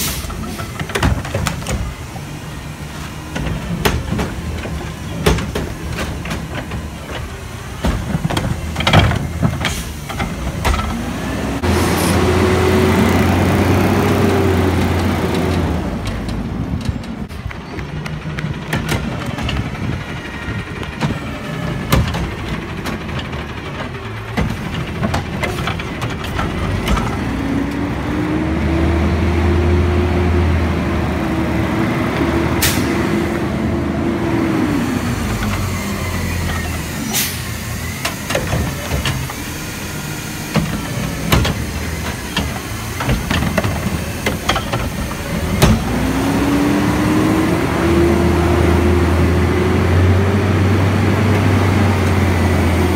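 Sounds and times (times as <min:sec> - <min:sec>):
garbage truck diesel engine revving: 0:00.0 - 0:52.9.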